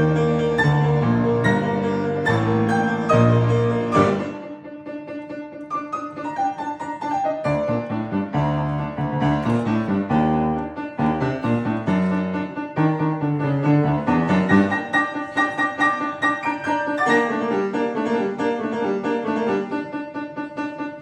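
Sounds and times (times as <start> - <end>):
piano playing a tune: 0.0 - 21.0.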